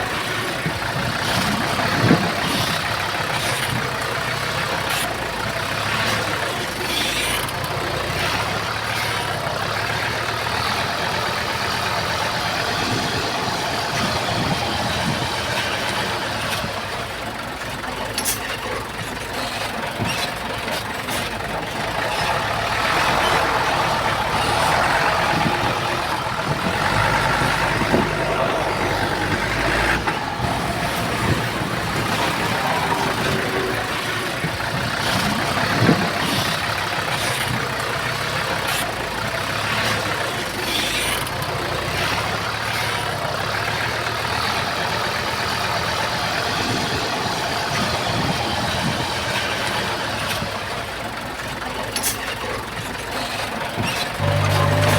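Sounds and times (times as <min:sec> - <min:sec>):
diesel earthmoving machinery working: 0:00.0 - 0:54.9.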